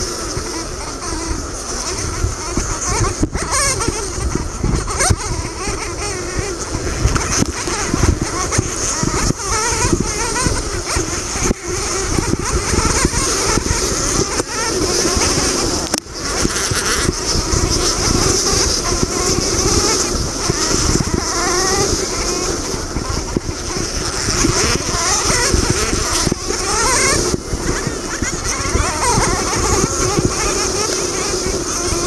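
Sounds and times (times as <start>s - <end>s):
dirt bike engine revving: 0.0s - 32.0s
wind rumble on microphone: 0.0s - 32.0s.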